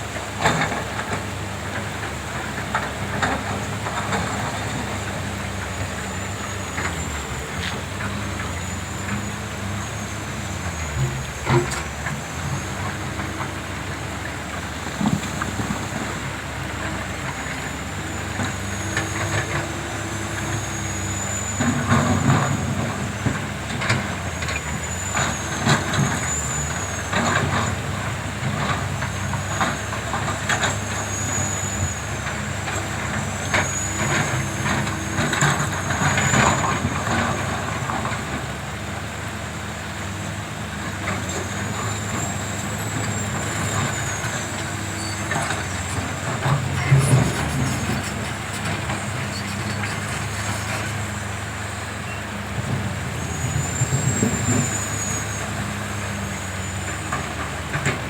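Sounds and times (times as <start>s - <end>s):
excavator diesel engines running: 0.0s - 58.0s.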